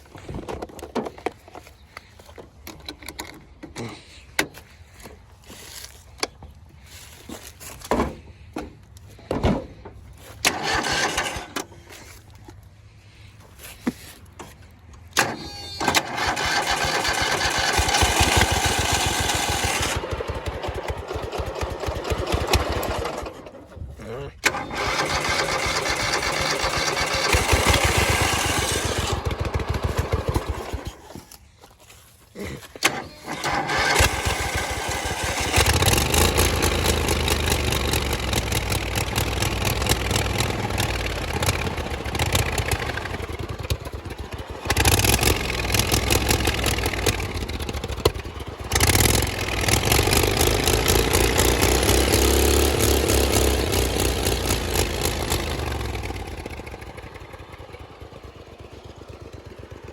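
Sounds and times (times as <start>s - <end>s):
lawnmower engine running: 0.0s - 59.9s.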